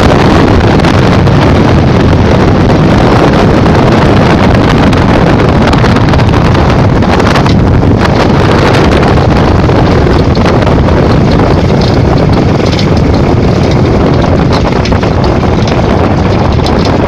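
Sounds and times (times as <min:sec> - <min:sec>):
engine running: 0:00.0 - 0:17.0
wind buffeting microphone: 0:00.0 - 0:17.0.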